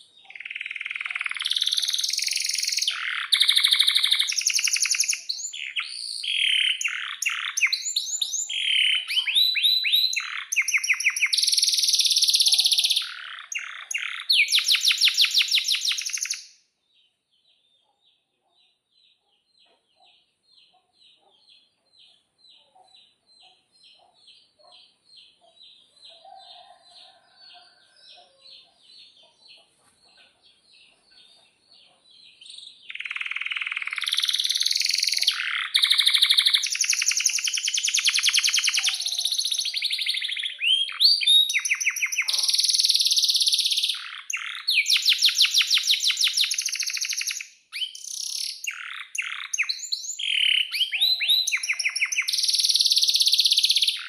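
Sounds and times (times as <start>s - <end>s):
canary chirping: 0.0s - 54.0s
canary song with rapid trills: 0.0s - 54.0s.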